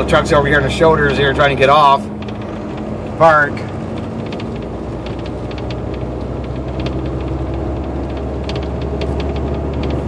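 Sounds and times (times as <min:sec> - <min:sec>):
diesel engine drone: 0:00.0 - 0:10.0
light irregular ticking: 0:00.0 - 0:10.0.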